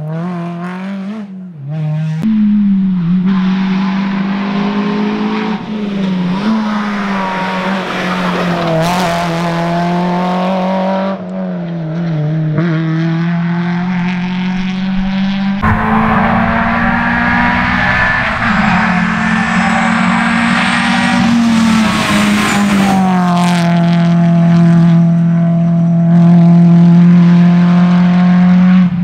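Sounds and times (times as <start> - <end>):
rally car engine at high revs: 0.0 - 29.0.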